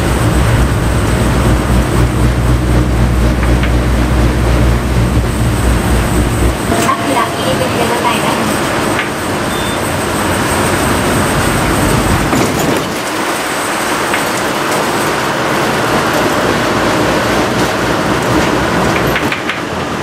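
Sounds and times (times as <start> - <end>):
bus engine and tyre noise: 0.0 - 20.0.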